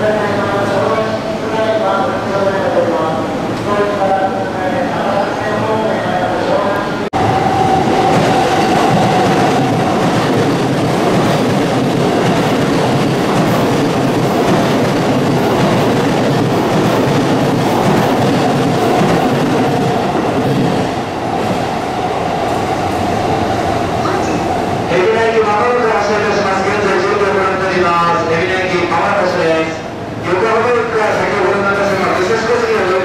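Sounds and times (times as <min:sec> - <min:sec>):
electric train running past: 0:00.1 - 0:29.1.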